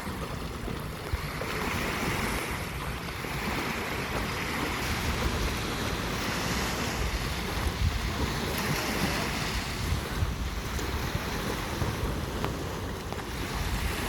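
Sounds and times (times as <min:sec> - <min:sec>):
waves breaking on a beach: 0:00.0 - 0:14.0
wind buffeting microphone: 0:00.0 - 0:14.0.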